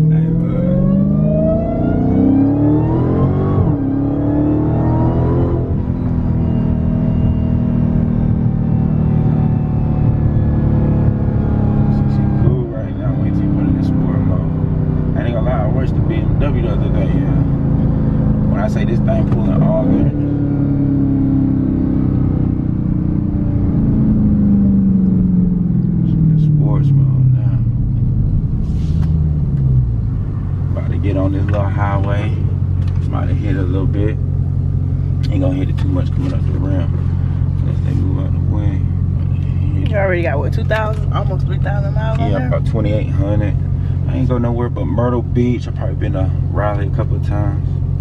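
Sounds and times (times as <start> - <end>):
car engine accelerating hard: 0.0 - 48.0.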